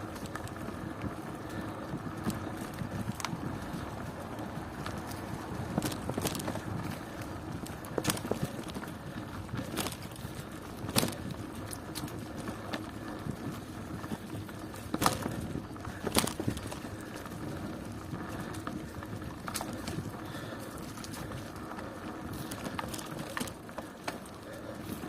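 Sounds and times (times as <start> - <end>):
bicycle tyres rolling: 0.0 - 25.0
bike clicks and knocks: 0.0 - 25.0.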